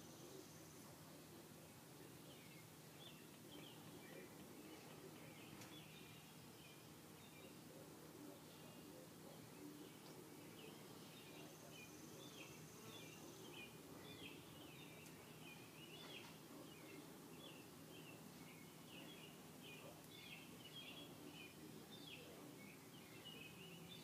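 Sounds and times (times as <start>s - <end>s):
bird chirping: 2.0s - 24.0s.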